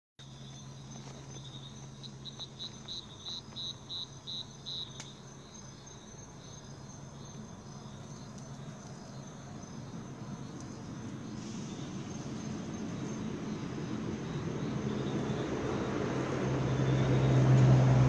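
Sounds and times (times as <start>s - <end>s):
cricket chirping: 0.2s - 18.0s
insect trill: 0.2s - 18.0s.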